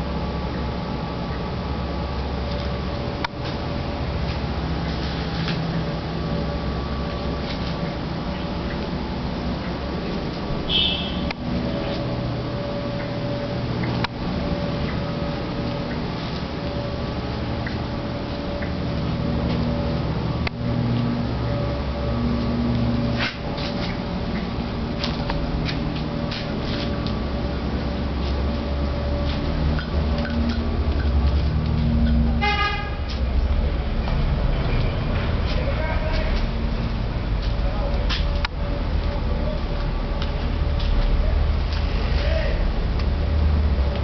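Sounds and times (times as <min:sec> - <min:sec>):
street traffic rumble: 0:00.0 - 0:44.0.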